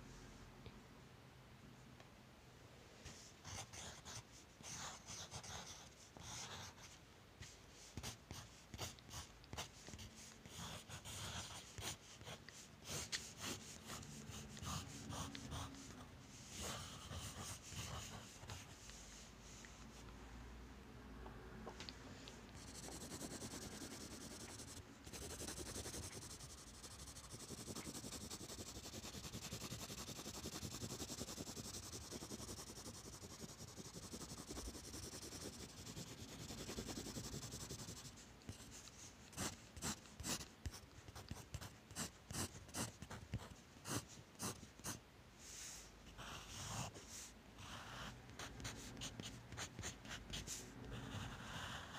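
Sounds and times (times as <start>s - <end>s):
pencil scratching on paper: 3.4s - 7.0s, 7.9s - 19.3s, 22.5s - 45.0s, 46.2s - 51.9s.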